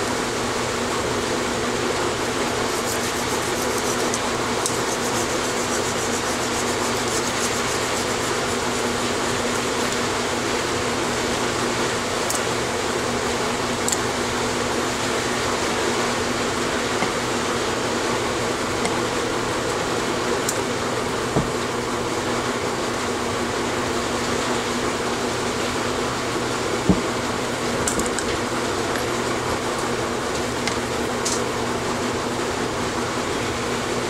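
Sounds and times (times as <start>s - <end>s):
motor-driven fan whirring: 0.0s - 34.0s.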